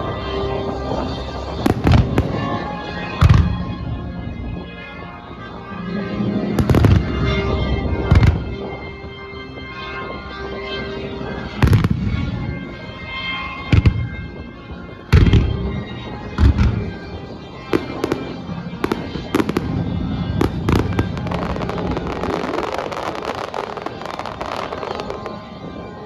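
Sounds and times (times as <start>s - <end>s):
fireworks booming and crackling: 0.0s - 4.8s, 5.6s - 26.0s.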